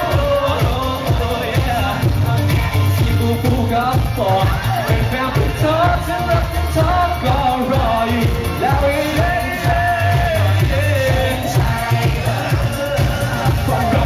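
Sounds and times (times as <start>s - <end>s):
man singing into a microphone: 0.0s - 14.0s
pop backing track with bass beat: 0.0s - 14.0s.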